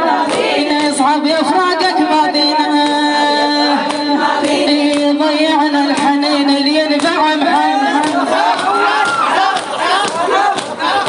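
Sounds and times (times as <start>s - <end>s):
woman chanting a lament: 0.0s - 11.0s.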